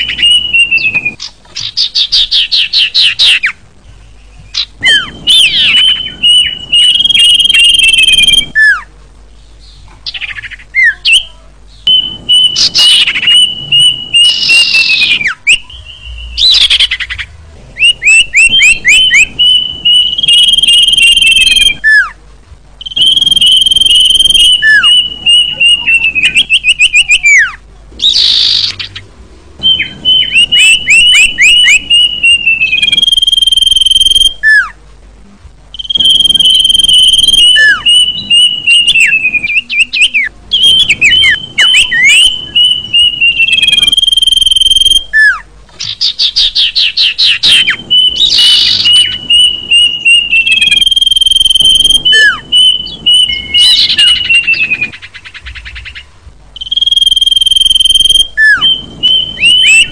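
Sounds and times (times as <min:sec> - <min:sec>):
birds singing whistled phrases: 0:00.0 - 0:22.2, 0:22.8 - 0:34.8, 0:35.7 - 0:59.9.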